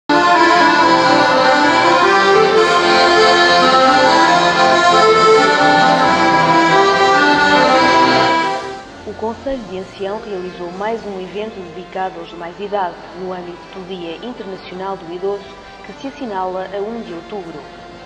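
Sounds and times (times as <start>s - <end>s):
accordion music: 0.1s - 18.0s.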